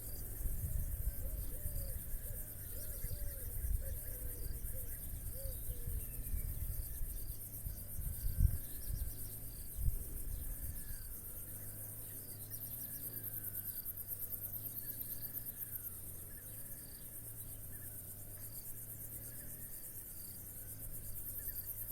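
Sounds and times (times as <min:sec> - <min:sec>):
crickets trilling: 0:00.0 - 0:21.9
faint bird chirps: 0:00.0 - 0:21.9.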